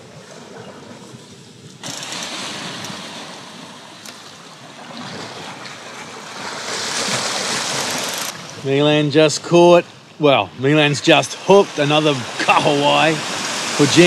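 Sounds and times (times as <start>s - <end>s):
small waves sloshing over rocks: 0.0s - 8.8s, 11.3s - 14.0s.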